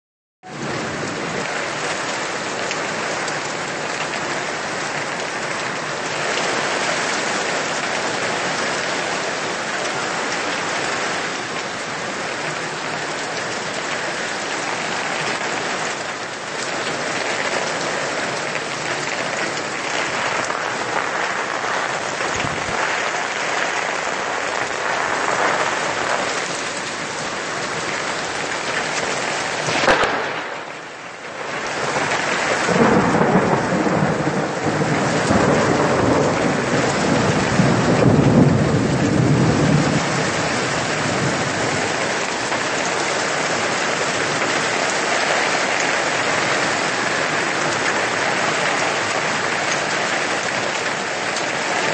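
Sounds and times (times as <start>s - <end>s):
heavy rain on pavement: 0.4s - 51.9s.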